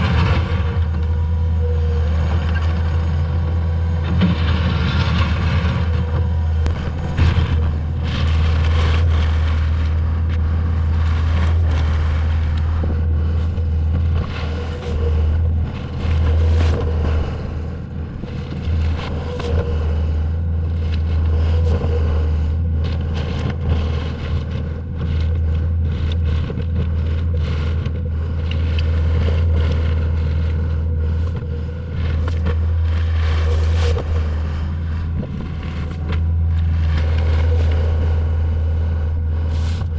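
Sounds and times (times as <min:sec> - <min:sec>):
diesel engine running: 0:00.0 - 0:39.9
gravel scraping and clattering: 0:00.0 - 0:39.9.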